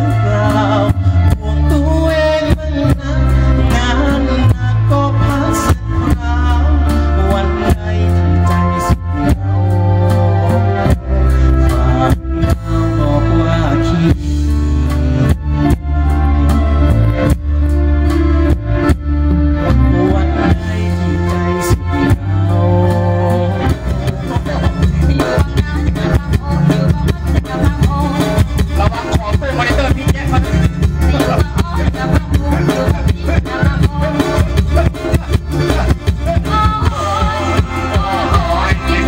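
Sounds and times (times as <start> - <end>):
person singing: 0.0 - 17.8, 19.4 - 39.0
loud live music with heavy bass: 0.0 - 39.0.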